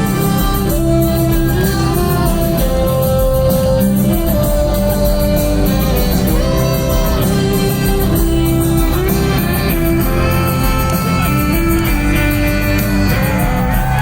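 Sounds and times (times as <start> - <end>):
live band instrumental music: 0.0 - 14.0.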